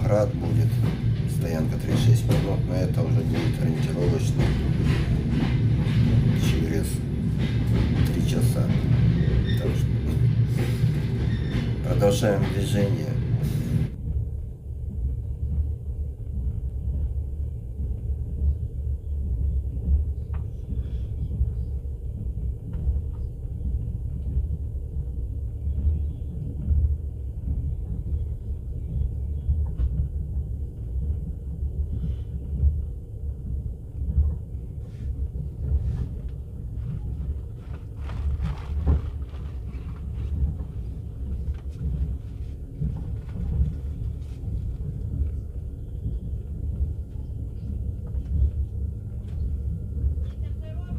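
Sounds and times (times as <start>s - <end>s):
train rumble inside carriage: 0.0s - 50.9s.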